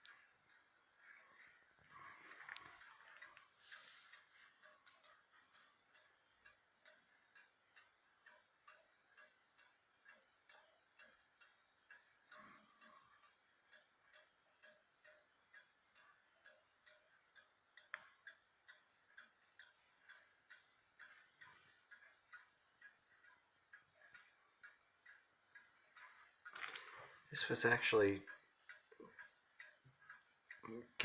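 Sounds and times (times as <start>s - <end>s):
clock ticking faintly: 0.0s - 31.0s.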